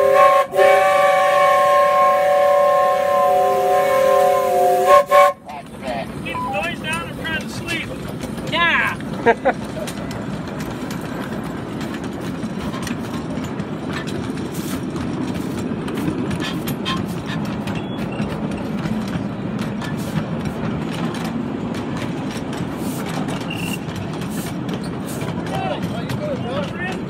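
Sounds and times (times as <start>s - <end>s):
wheels rumbling on rails: 0.0s - 27.0s.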